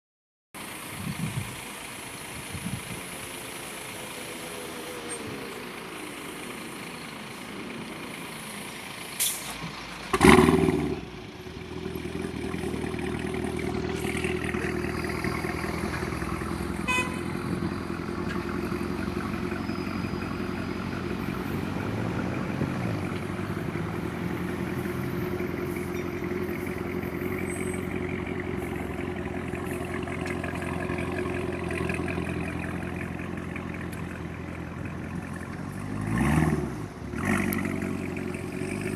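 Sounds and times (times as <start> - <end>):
car engine starting and idling: 0.6 - 38.9.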